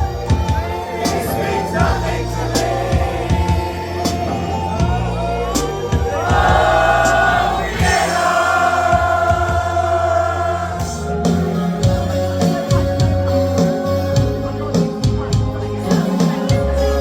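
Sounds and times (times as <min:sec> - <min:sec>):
steady drum beat: 0:00.0 - 0:16.8
bass: 0:00.0 - 0:17.0
voices singing long notes: 0:00.0 - 0:17.0.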